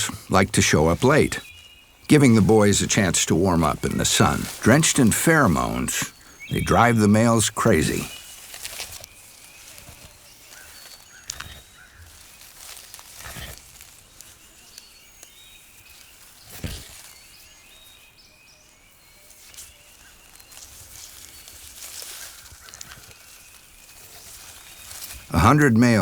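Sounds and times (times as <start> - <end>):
snakes rustling on dry ground: 0.0 - 26.0.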